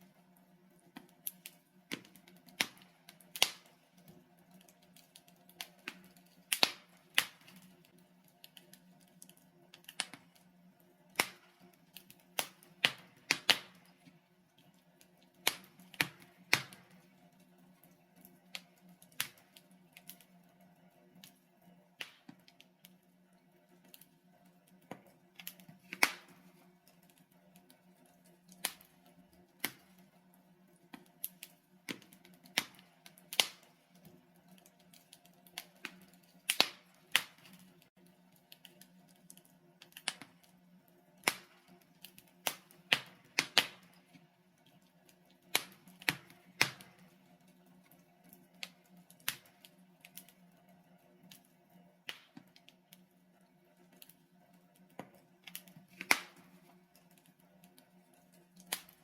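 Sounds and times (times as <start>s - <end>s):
logs crackling in a fireplace: 0.0s - 59.0s.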